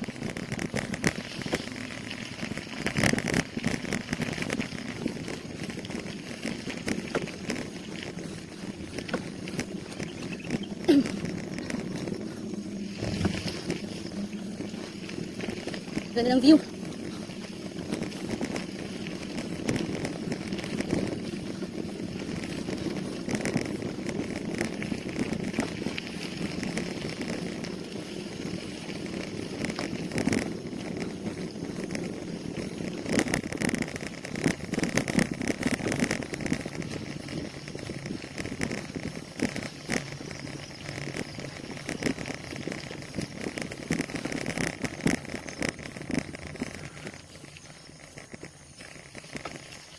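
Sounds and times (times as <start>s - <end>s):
bicycle rattles and clicks: 0.0s - 49.9s
bicycle tyre and wind noise: 0.0s - 49.9s.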